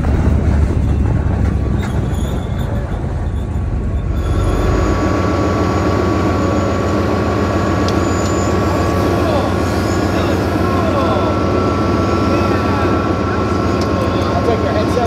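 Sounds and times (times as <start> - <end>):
tank engine and tracks: 0.0 - 15.0.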